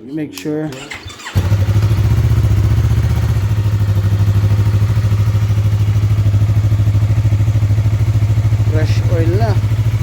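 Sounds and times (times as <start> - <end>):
motorcycle engine starting and idling: 0.6 - 10.0.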